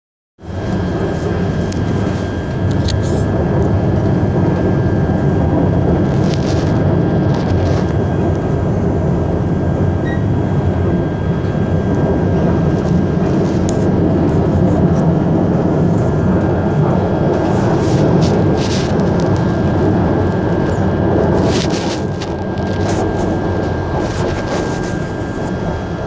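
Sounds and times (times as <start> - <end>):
faint high whine: 0.4 - 26.0
train rumbling: 0.4 - 26.0.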